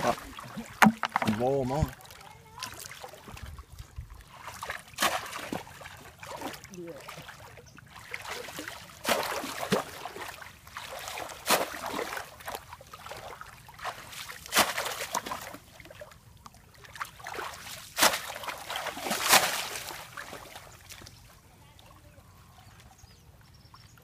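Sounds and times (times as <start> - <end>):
sharp water splashes: 0.0 - 3.5, 4.2 - 21.1
muddy water sloshing: 0.0 - 24.0.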